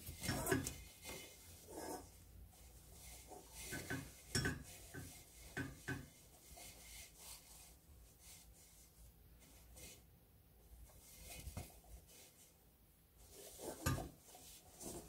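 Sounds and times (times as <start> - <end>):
cloth rustling over dough: 0.0 - 15.0.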